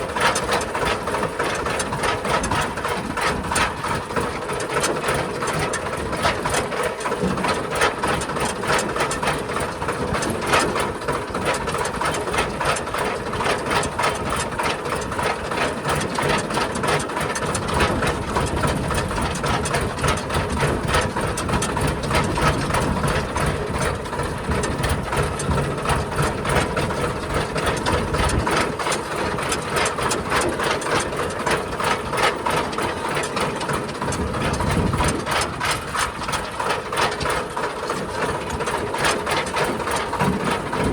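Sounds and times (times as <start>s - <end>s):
heavy diesel engine chugging: 0.0s - 40.9s.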